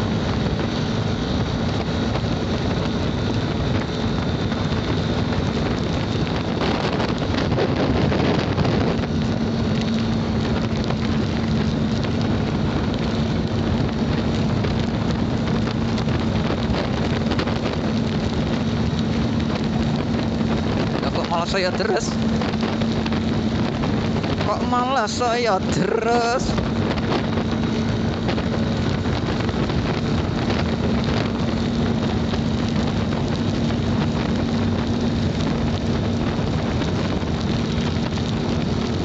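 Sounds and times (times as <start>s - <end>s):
motorcycle engine hum: 0.0s - 39.0s
wind buffeting microphone: 0.0s - 39.0s.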